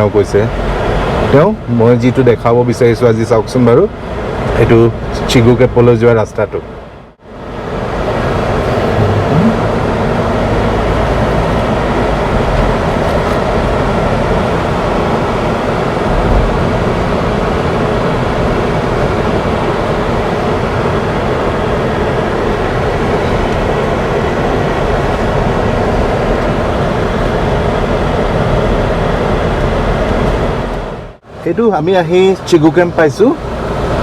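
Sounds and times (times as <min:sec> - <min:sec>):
vehicle engine and tyre noise: 0:00.0 - 0:34.0.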